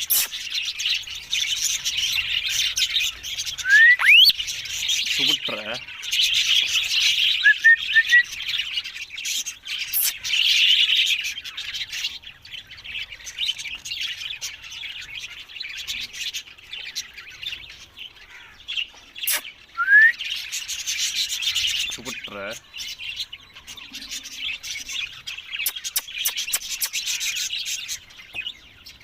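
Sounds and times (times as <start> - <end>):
parakeets chattering: 0.0 - 29.0.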